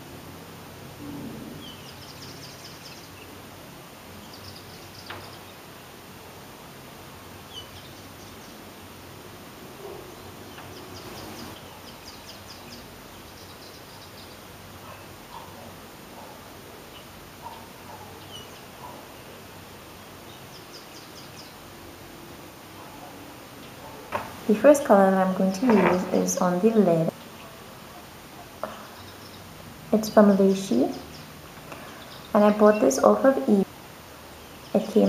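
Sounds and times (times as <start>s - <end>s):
low hiss: 0.0s - 35.0s.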